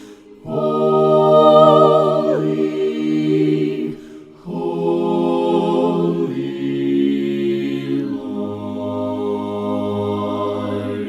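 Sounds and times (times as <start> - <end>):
unaccompanied voices singing a hymn: 0.0 - 11.0.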